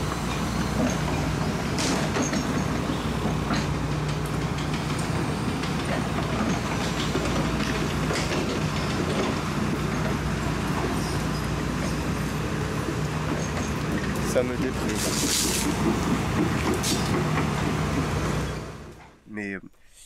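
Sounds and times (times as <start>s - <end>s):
excavator diesel engine humming: 0.0s - 19.6s.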